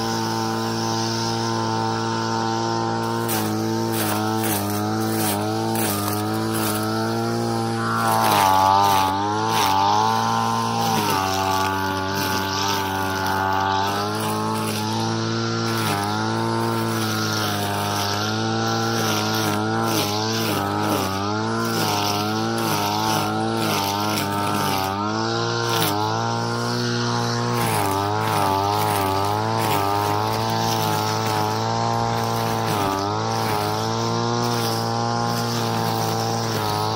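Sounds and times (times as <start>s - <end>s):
brush cutter engine mowing: 0.0s - 36.9s.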